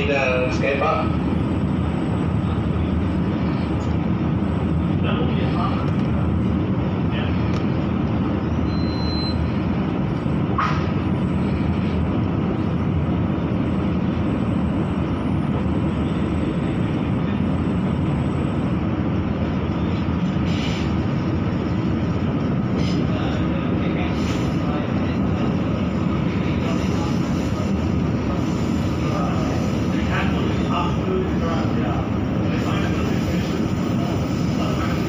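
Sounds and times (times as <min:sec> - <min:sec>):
train running rumble: 0:00.0 - 0:35.0.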